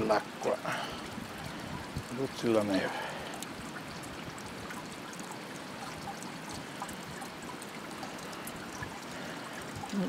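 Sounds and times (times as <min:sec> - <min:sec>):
fountain water trickling and splashing: 0:00.0 - 0:10.0.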